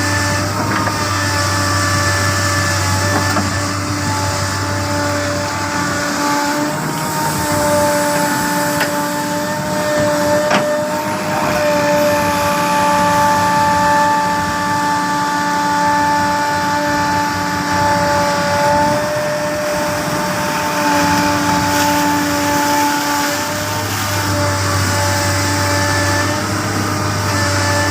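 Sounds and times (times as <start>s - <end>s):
excavator engine and hydraulics hum: 0.0s - 27.9s.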